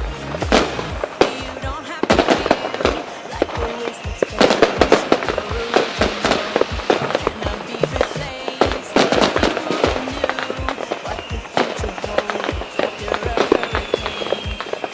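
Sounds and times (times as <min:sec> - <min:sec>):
fireworks bangs and crackles: 0:00.0 - 0:14.9
music playing: 0:00.0 - 0:14.9.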